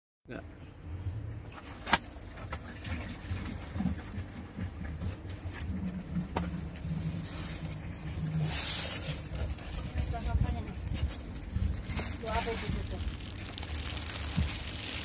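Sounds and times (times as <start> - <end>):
low steady rumble: 0.3 - 15.0.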